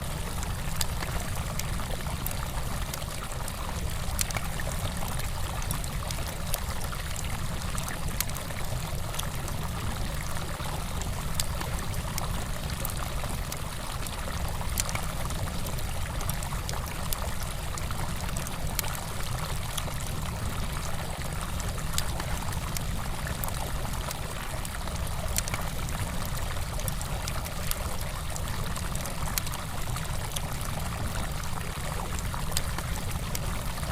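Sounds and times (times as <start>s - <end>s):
river flowing over stones: 0.0s - 33.9s
campfire crackling and popping: 0.2s - 33.9s.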